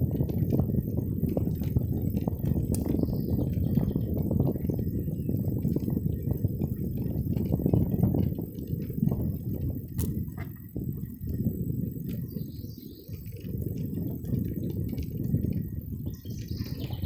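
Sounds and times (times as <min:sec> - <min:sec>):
gusting wind: 0:00.0 - 0:17.0
road noise: 0:00.0 - 0:17.0
birds chirping faintly: 0:01.0 - 0:08.0, 0:10.2 - 0:17.0.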